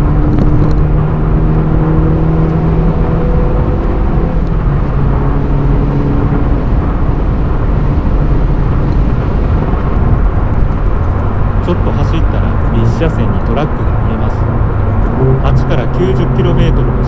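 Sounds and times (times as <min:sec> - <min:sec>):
car engine and exhaust droning: 0:00.0 - 0:17.0
road and tyre rumble: 0:00.0 - 0:17.0.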